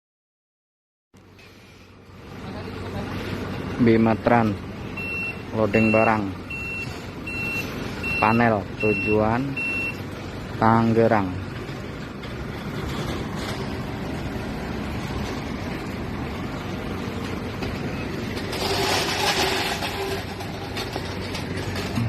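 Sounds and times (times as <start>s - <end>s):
diesel engine rumbling: 1.2s - 22.0s.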